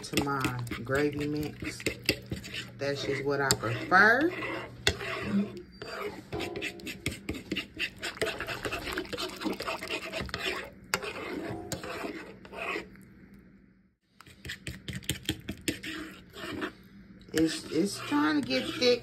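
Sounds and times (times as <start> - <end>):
utensil scraping a pan: 0.0 - 12.9, 14.2 - 19.0.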